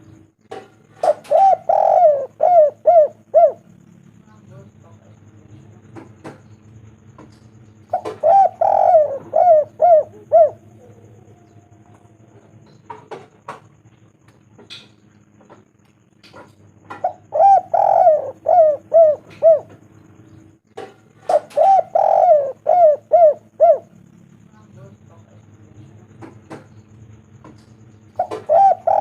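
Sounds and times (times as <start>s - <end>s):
dove cooing: 0.0s - 4.1s, 5.7s - 14.1s, 16.3s - 24.4s, 26.0s - 29.0s.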